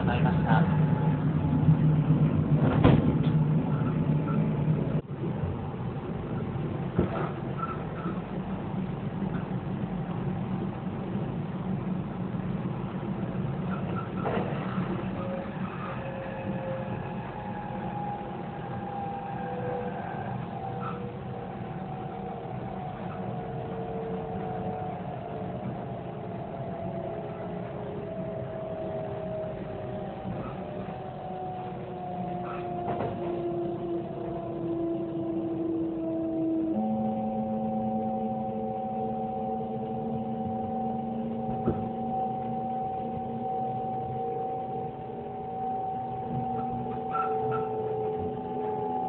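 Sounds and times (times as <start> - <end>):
faint whine: 0.0 - 49.0
train running noise: 0.0 - 49.0.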